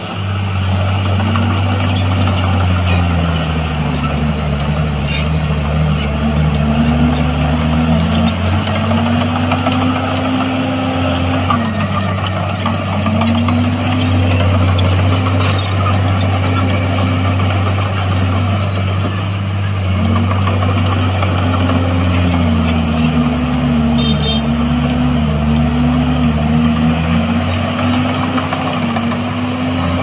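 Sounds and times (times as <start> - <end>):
heavy machinery diesel engine: 0.0 - 30.0.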